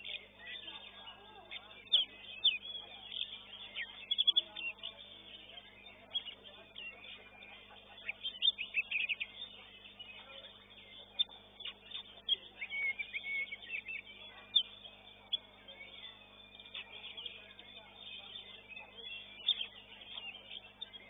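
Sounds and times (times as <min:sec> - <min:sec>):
faint steady hum: 0:00.0 - 0:21.0
songbird whistling: 0:00.0 - 0:21.0.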